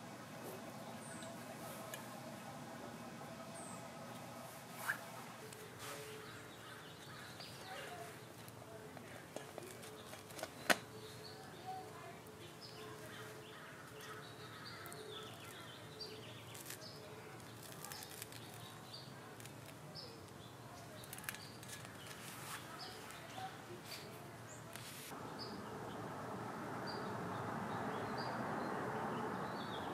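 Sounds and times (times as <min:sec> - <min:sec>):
steady background hiss: 0:00.0 - 0:29.9
small birds chirping: 0:00.2 - 0:29.9.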